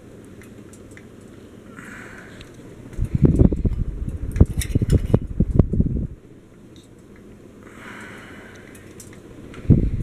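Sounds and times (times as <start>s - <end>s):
ceiling fan whirring: 0.0s - 10.0s
fan air blowing on microphone: 0.0s - 10.0s.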